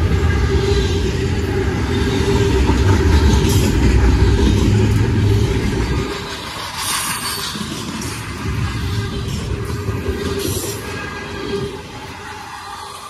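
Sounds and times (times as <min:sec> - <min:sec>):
train passing rumble: 0:00.0 - 0:13.0.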